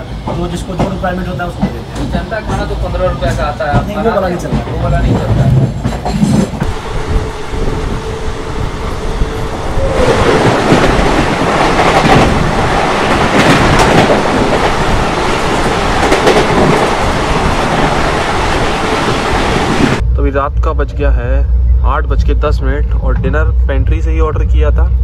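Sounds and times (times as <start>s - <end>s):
passing train rush and clatter: 0.0s - 25.0s
train running on rails: 0.0s - 25.0s.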